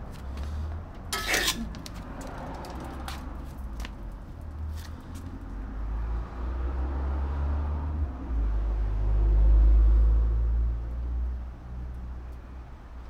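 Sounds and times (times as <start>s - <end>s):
passing vehicle rumble: 0.0s - 13.0s.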